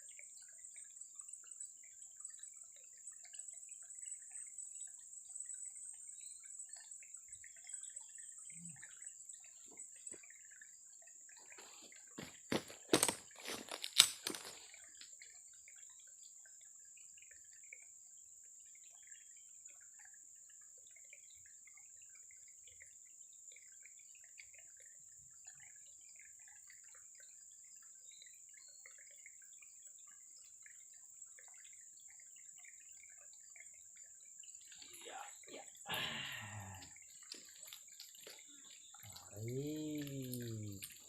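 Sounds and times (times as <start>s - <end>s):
water dripping and trickling: 0.0s - 41.0s.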